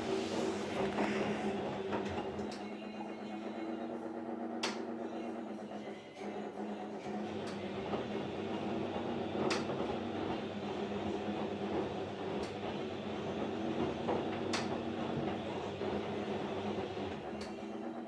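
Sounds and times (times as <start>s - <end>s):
washing machine running: 0.0s - 18.0s.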